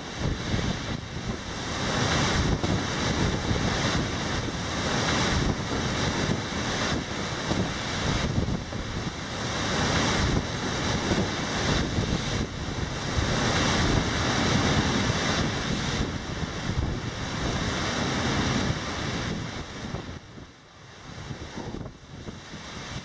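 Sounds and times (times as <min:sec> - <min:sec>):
surf crashing against a sea wall: 0:00.0 - 0:23.0
wind buffeting the microphone: 0:00.0 - 0:23.0.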